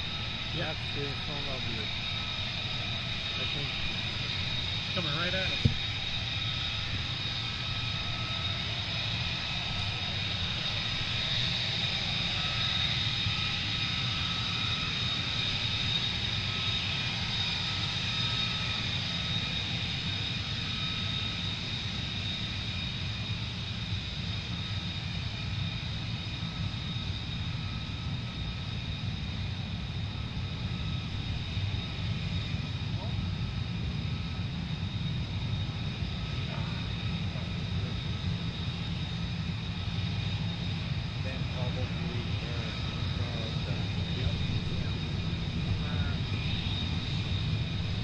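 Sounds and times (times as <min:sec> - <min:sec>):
jet engine whine and rumble: 0:00.0 - 0:48.0.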